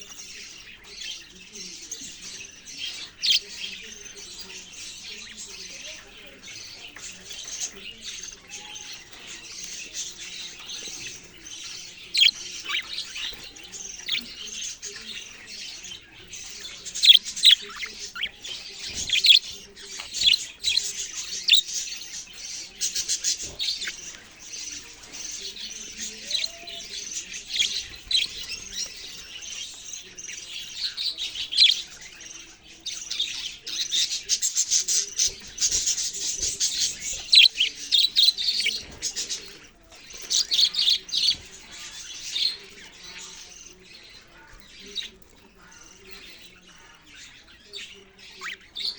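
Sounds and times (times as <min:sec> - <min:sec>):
budgerigars chirping: 0:00.0 - 0:48.9.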